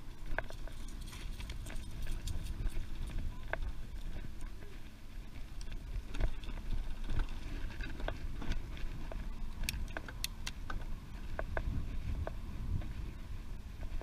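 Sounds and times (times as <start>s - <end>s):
bicycle clicks and rattles: 0.0s - 13.0s
wind rumbling on microphone: 0.0s - 14.0s.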